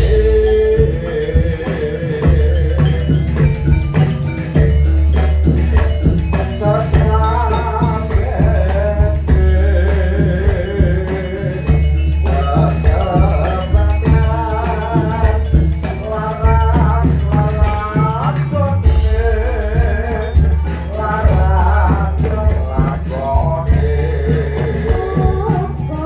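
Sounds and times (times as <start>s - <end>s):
person singing: 0.0s - 4.8s, 6.3s - 26.0s
drum and gong percussion: 0.0s - 26.0s.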